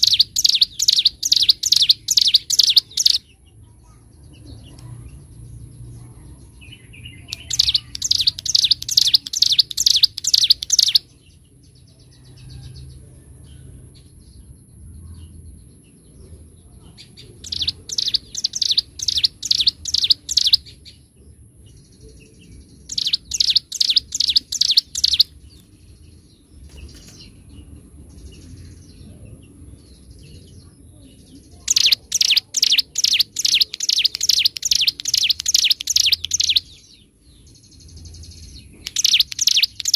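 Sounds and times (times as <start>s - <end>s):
songbird singing sharp notes: 0.0s - 3.6s, 6.5s - 12.7s, 16.9s - 39.9s
soft bird chirps: 0.0s - 39.9s.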